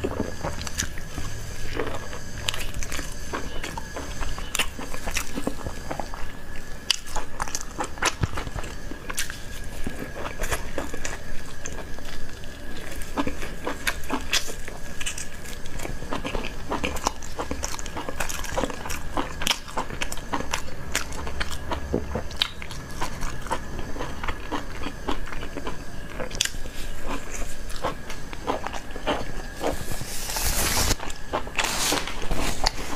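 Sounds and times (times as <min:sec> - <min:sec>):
crunchy chewing: 0:00.0 - 0:32.9.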